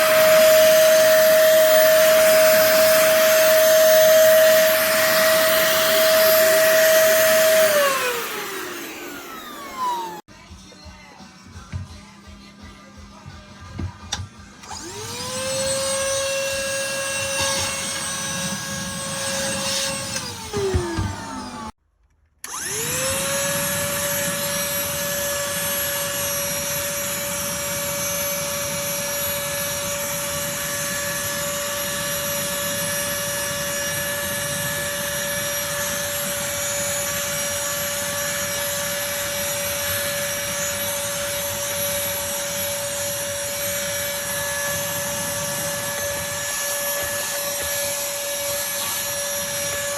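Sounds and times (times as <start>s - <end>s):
handheld vacuum motor whining: 0.0s - 10.3s, 14.1s - 21.8s, 22.4s - 49.9s.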